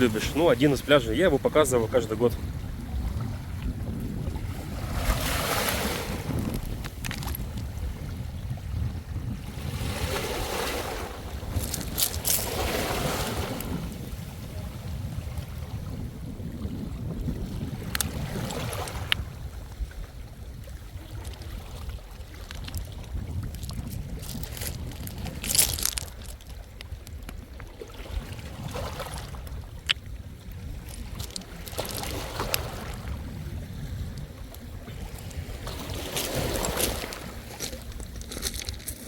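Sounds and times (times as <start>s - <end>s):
small waves washing onto shore: 0.0s - 39.0s
wind rumble on microphone: 0.0s - 39.0s.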